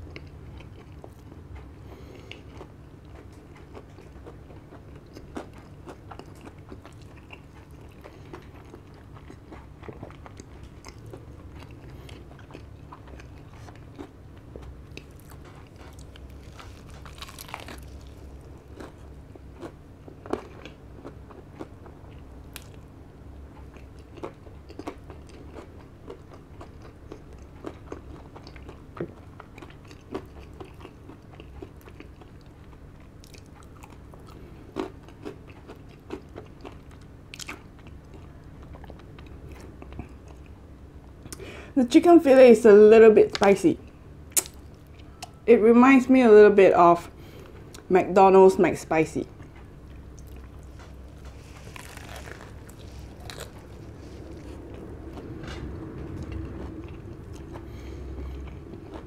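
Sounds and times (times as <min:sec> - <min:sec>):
chewing and crunching fried chicken: 0:00.0 - 0:42.1, 0:43.2 - 0:46.2, 0:48.7 - 0:59.0.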